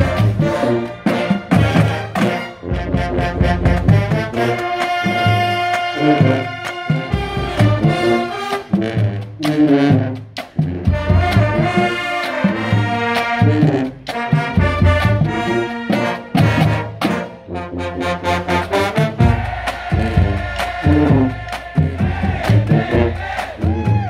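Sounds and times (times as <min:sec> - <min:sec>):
marching drums beat: 0:00.0 - 0:17.3, 0:18.7 - 0:24.0
brass and woodwinds chords: 0:00.0 - 0:24.0.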